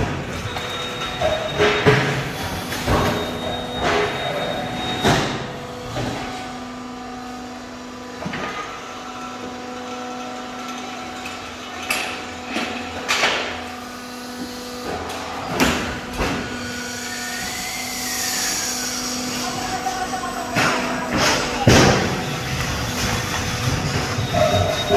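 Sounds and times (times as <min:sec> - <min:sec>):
steady machine hum: 0:00.0 - 0:24.9.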